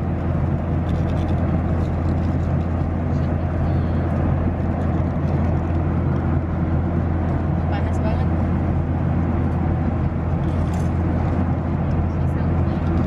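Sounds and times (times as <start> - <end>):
airliner engine hum: 0.0 - 13.0.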